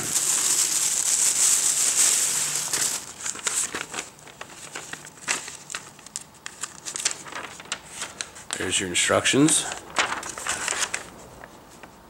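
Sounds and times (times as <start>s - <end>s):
plastic bag crinkling and rustling: 0.0s - 11.5s.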